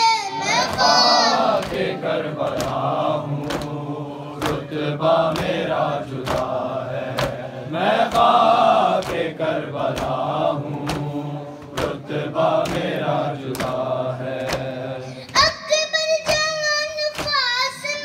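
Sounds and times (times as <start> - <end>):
people chanting in unison: 0.0 - 15.4
hands slapping chests: 0.5 - 7.4, 8.0 - 15.5, 16.2 - 17.5.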